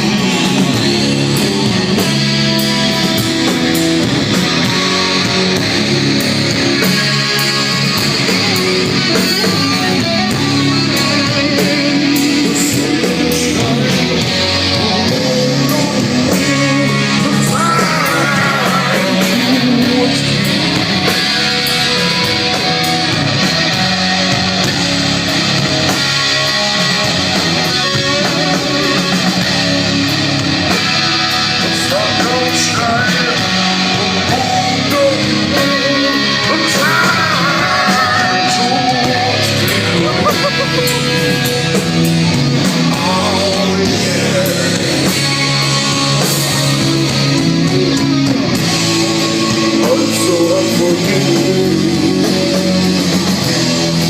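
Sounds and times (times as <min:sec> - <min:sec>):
heavy metal band playing: 0:00.0 - 0:54.0.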